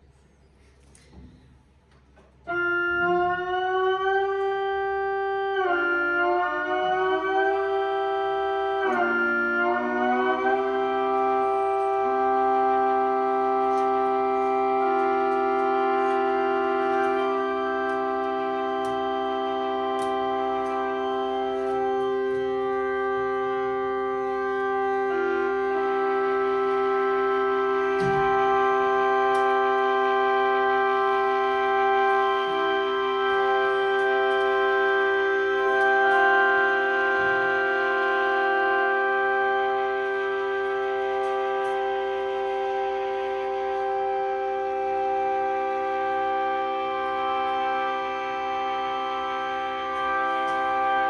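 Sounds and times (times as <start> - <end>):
tornado sirens in harmony: 2.5 - 51.0.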